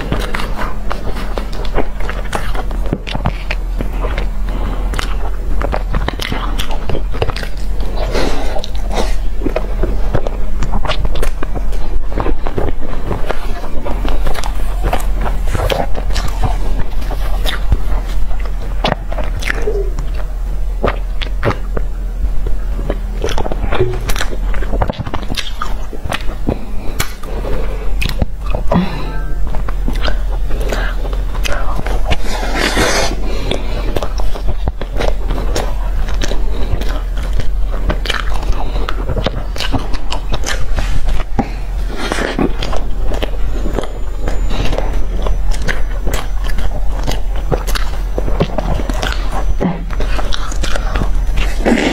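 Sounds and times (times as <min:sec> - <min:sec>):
person chewing pastry: 0:00.0 - 0:51.9
steady low hum: 0:00.0 - 0:51.9.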